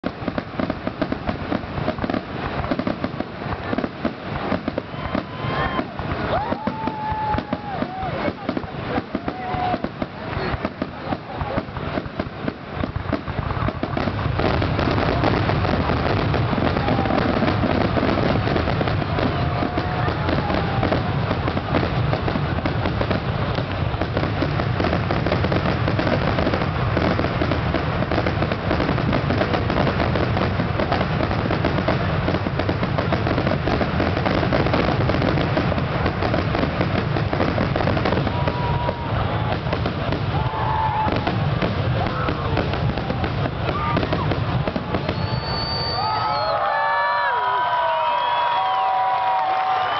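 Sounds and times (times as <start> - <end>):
fireworks bursts and crackling: 0.0 - 49.9.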